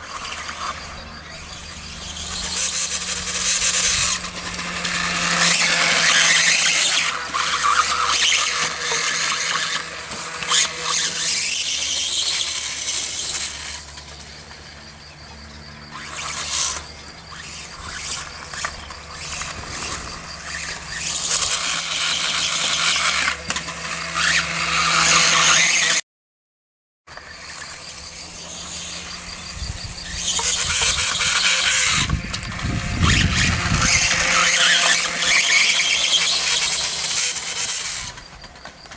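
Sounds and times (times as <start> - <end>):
toy motorbike motor whining: 0.0 - 26.0, 27.1 - 38.9.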